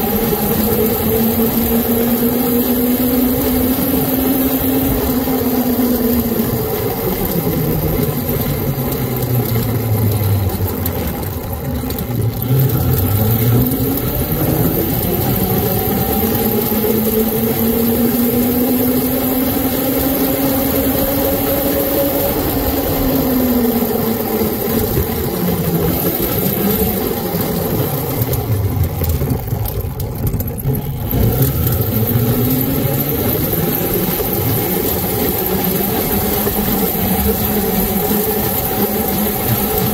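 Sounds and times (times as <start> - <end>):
electric motor whine: 0.0 - 39.9
wind and road rush: 0.0 - 39.9.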